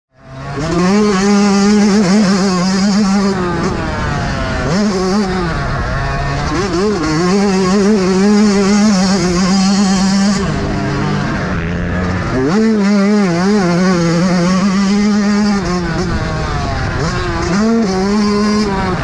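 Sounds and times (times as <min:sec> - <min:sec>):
dirt bike engine revving: 0:00.1 - 0:19.0.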